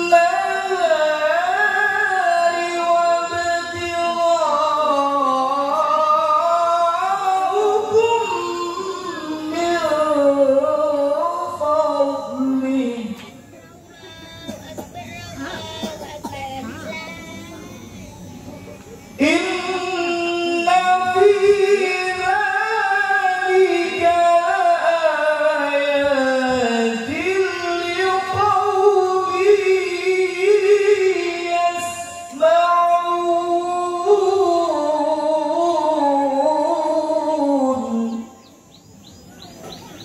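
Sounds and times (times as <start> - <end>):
man chanting through microphone: 0.0 - 16.0, 16.6 - 38.6.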